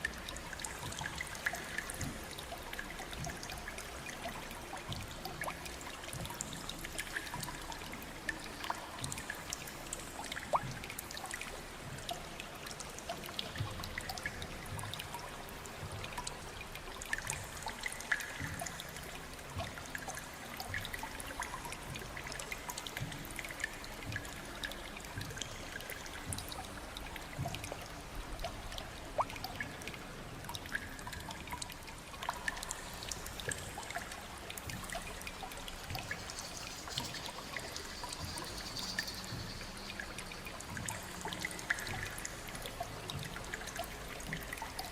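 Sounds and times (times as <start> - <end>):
water drips: 0.0 - 44.9
water trickling: 0.0 - 44.9.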